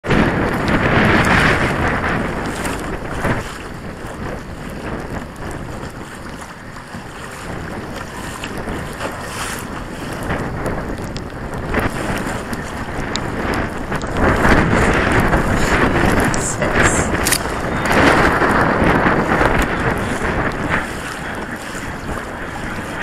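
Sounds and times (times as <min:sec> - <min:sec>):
water splashing against kayak hull: 0:00.0 - 0:23.0
wind buffeting microphone: 0:00.0 - 0:23.0.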